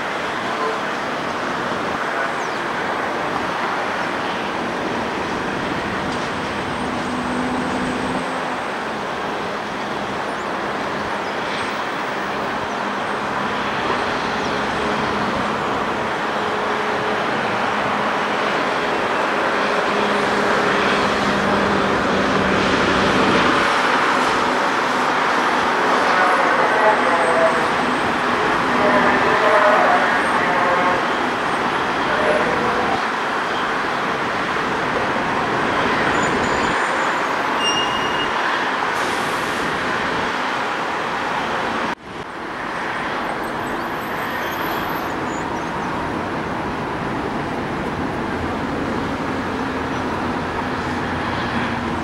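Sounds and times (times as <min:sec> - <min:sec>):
distant jet engines rushing: 0:00.0 - 0:52.0.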